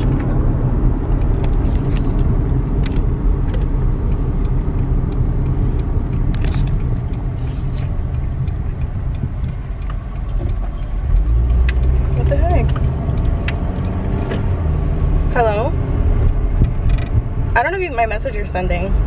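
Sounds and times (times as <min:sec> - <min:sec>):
car cabin rumble: 0:00.0 - 0:19.0.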